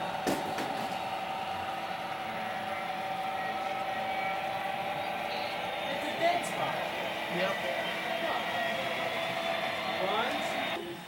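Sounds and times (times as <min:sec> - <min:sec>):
electric motor whine: 0:00.0 - 0:10.8.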